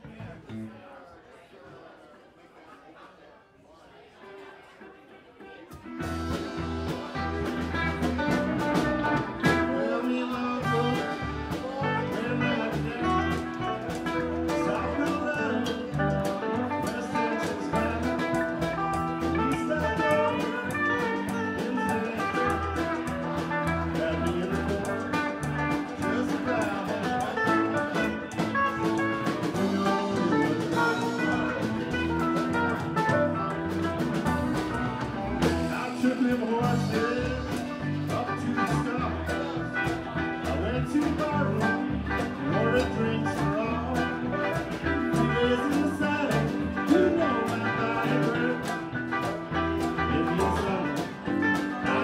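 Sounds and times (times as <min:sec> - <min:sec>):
band playing instrumental: 0:05.7 - 0:52.0.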